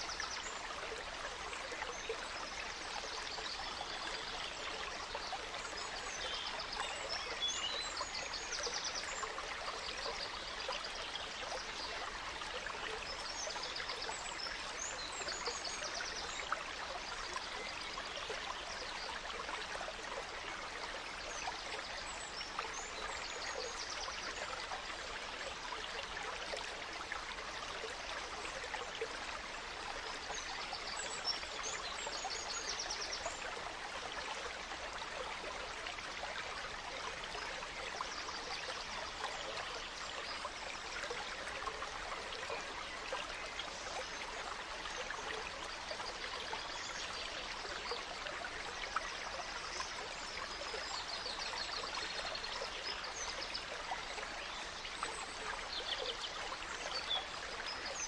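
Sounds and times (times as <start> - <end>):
gentle stream running: 0.0 - 58.0.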